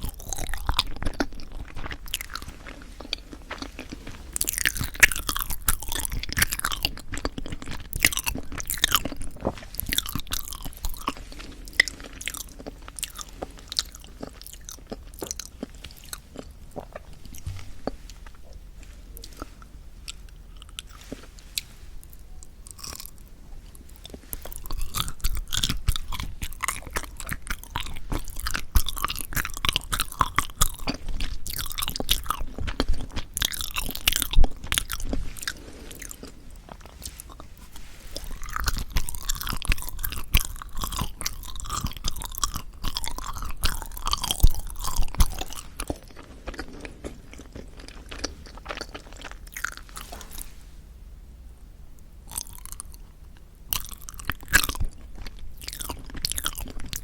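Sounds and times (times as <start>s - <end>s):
person chewing into microphone: 0.0s - 50.6s, 52.3s - 57.0s.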